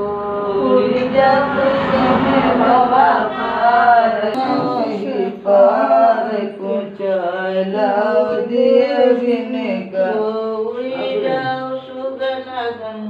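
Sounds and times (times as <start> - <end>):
women singing in unison: 0.0 - 12.8.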